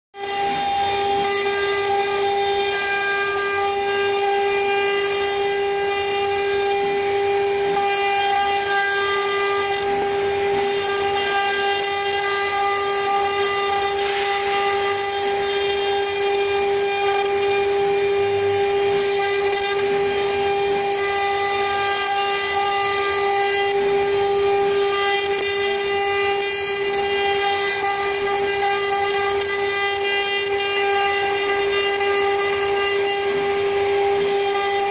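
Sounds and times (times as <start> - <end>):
bit cutting wood: 0.2 - 34.9
router spindle whining: 0.2 - 34.9.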